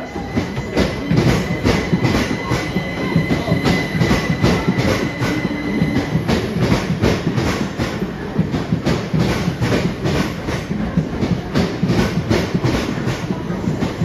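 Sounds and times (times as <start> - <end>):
train running rumble: 0.0 - 14.0
train wheels clicking over rail joints: 0.0 - 14.0.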